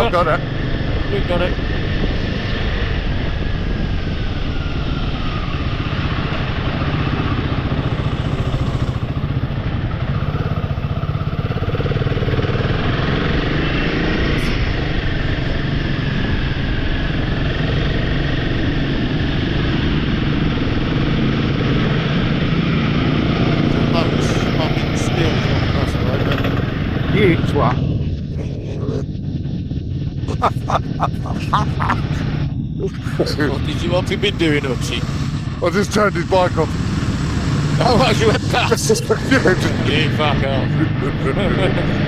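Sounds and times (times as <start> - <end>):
wind and road noise: 0.0 - 30.1, 33.4 - 42.0.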